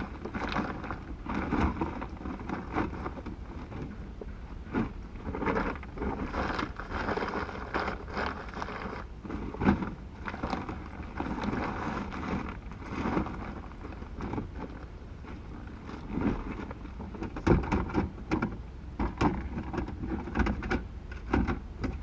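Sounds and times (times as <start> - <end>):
rustling and shuffling: 0.0 - 22.0.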